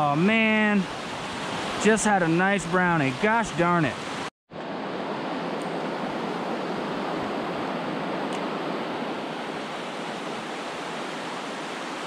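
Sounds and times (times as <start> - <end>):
stream rushing over rocks: 0.1 - 12.0.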